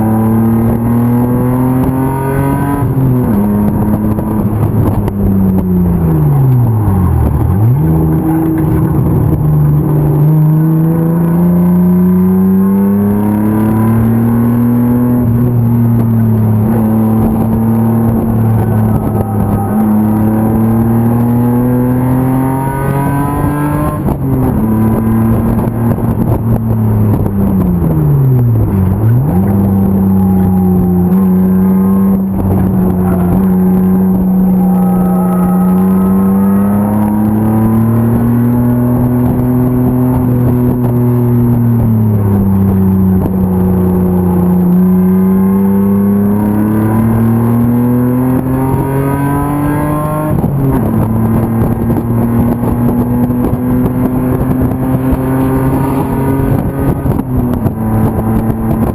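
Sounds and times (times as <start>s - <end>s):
race car engine at speed: 0.0s - 58.9s.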